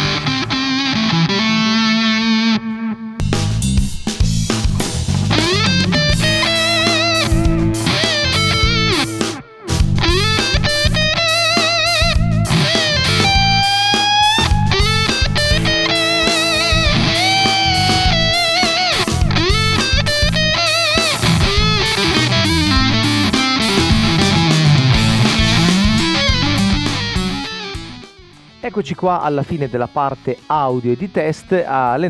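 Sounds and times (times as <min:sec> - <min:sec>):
bass: 0:00.0 - 0:00.6, 0:03.2 - 0:28.7
electric guitar lead: 0:00.0 - 0:31.2
drums: 0:03.2 - 0:29.8.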